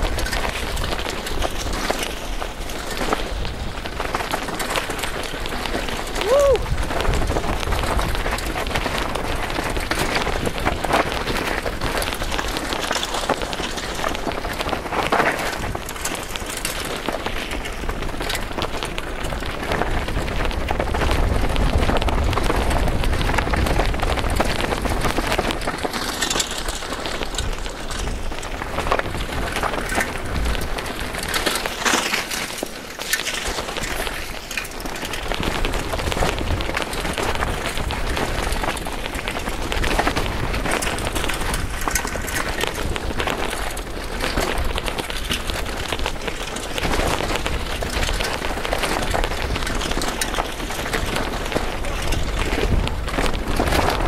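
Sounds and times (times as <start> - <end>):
bike tyres crunching on stones: 0.0 - 54.0.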